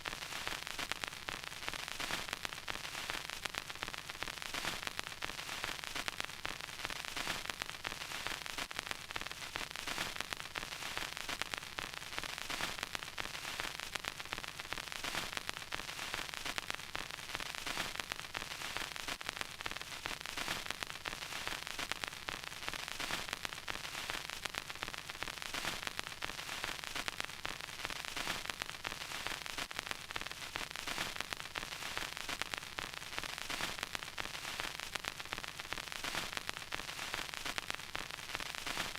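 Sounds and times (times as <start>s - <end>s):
vinyl record crackle: 0.0s - 38.9s.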